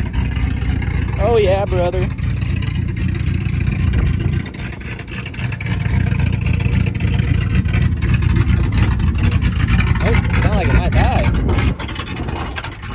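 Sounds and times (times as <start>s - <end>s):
truck engine running: 0.0s - 12.9s.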